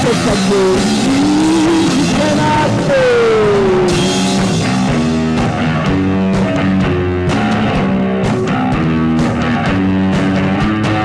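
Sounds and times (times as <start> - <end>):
drum kit beat: 0.0 - 11.0
rock guitar chords: 0.0 - 11.0.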